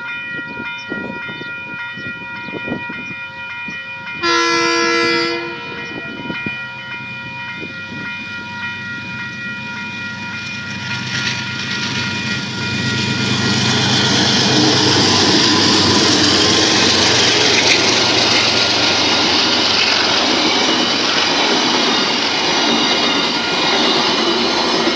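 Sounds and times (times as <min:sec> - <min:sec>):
level crossing bells ringing: 0:00.0 - 0:24.9
train wheel and rail noise: 0:00.0 - 0:24.9
diesel locomotive engine hum: 0:02.0 - 0:24.9.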